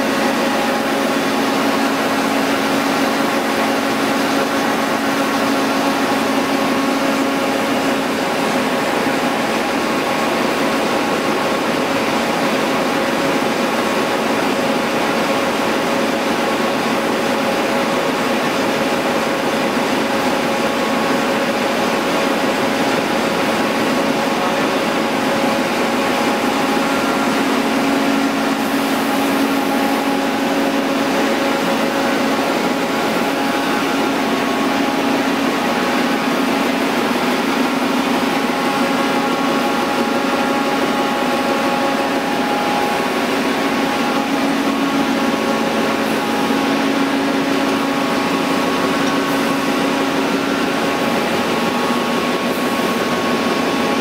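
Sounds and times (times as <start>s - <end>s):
printing press whirring: 0.0s - 54.0s.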